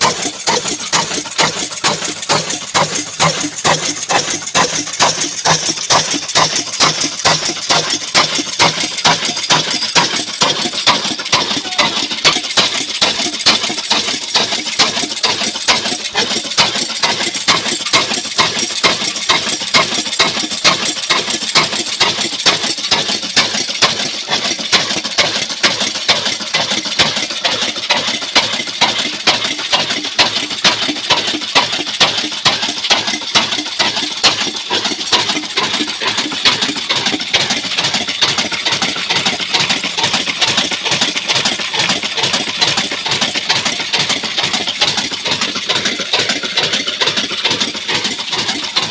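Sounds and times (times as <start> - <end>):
diesel engine running steadily: 0.0 - 48.9.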